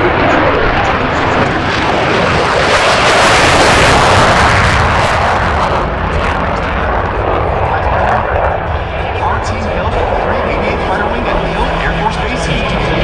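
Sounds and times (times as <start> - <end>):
jet fighter engine roar: 0.0 - 13.0.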